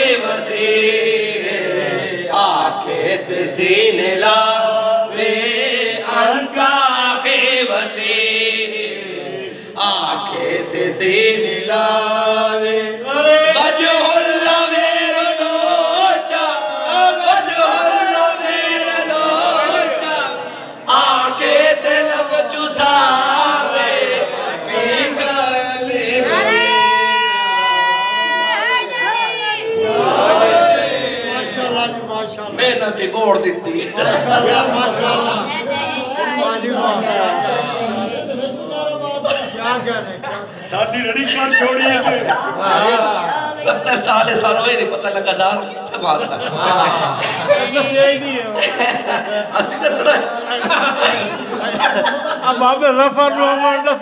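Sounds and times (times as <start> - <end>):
men chanting together: 0.0 - 44.9, 46.3 - 54.0.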